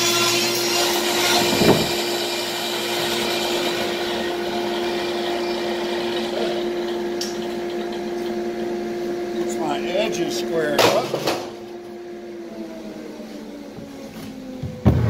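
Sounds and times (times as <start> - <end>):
table saw humming: 0.0 - 15.0.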